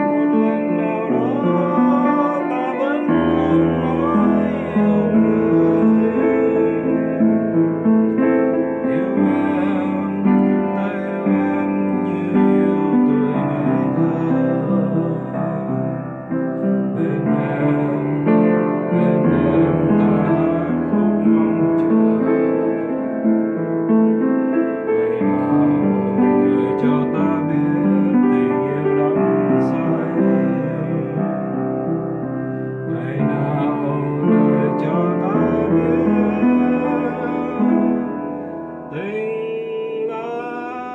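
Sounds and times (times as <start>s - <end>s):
piano chords: 0.0s - 40.9s.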